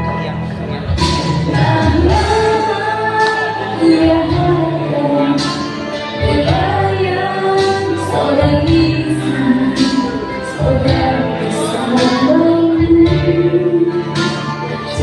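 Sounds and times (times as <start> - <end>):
instrumental backing with bass: 0.0 - 15.0
woman singing: 1.4 - 15.0.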